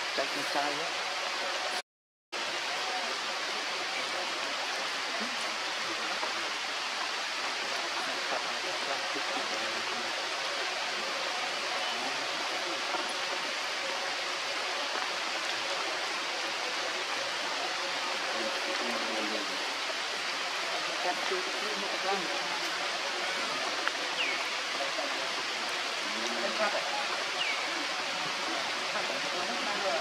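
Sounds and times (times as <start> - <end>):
rain falling on foliage: 0.0 - 1.8, 2.4 - 30.0.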